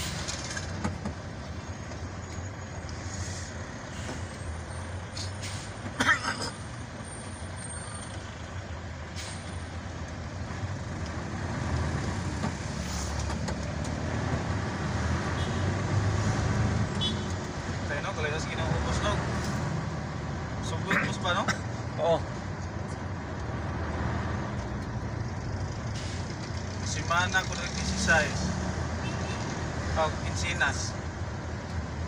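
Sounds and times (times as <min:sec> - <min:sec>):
road noise: 0:00.0 - 0:32.0
truck engine rumble: 0:00.0 - 0:32.0.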